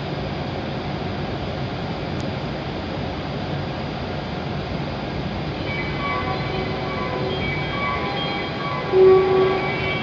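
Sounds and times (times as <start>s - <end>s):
train equipment rushing hum: 0.0s - 10.0s.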